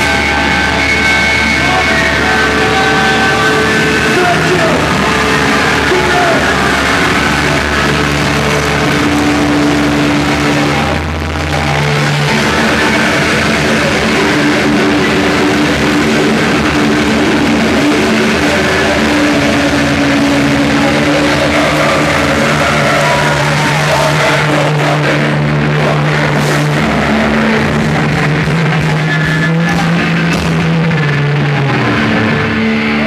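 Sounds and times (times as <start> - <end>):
live rock band music: 0.0 - 33.0.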